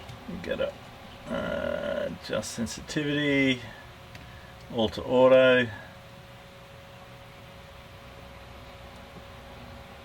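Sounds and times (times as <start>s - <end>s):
thin steady hum: 0.0s - 10.0s.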